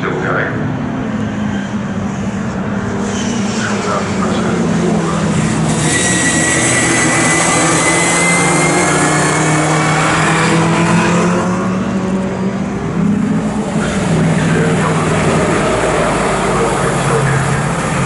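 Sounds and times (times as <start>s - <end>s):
race car engines at high revs: 0.5s - 18.0s.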